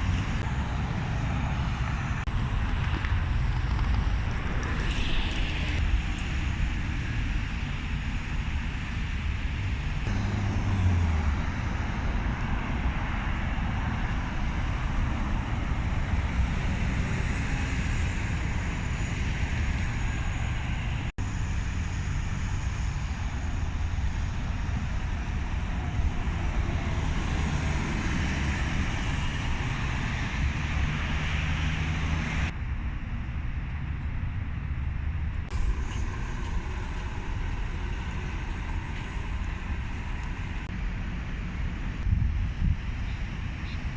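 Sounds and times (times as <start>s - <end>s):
road traffic rumble: 0.0s - 43.9s
wind on microphone: 0.0s - 43.9s.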